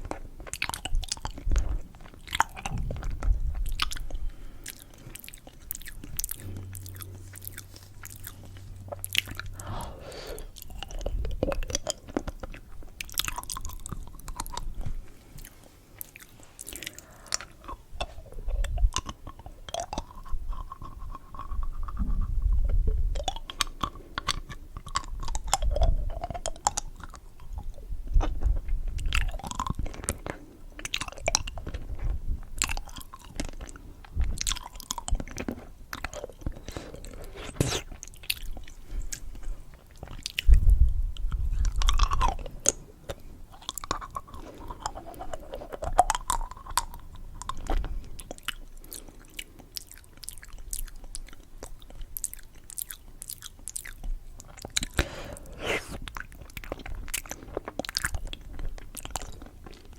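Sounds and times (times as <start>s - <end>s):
chewing and crunching candy: 0.0s - 59.9s.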